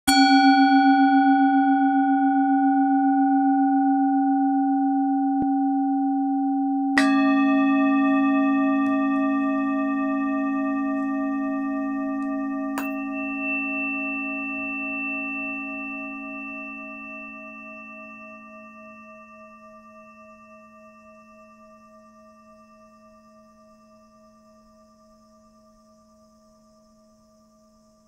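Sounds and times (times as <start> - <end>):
singing bowls ringing: 0.1 - 27.5.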